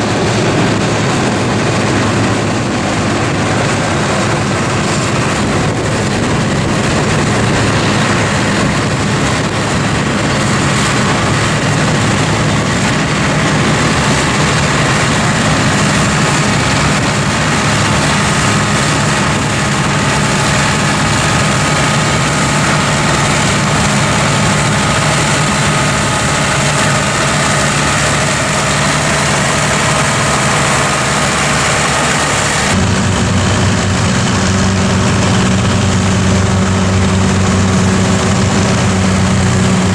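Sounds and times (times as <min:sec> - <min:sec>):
forage harvester mechanical roar: 0:00.0 - 0:39.9
tractor engine running: 0:00.0 - 0:39.9.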